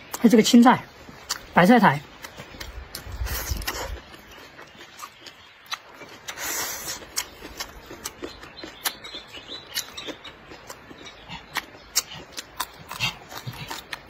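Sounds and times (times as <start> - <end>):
wet chewing: 1.0 - 14.0
mouth smacks and clicks: 1.2 - 1.5, 2.2 - 14.0.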